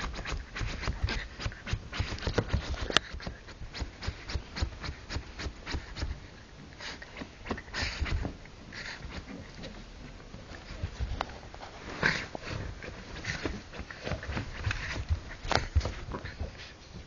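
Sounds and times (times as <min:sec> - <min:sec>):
dog scratching fabric: 0:00.0 - 0:09.9, 0:10.6 - 0:16.7.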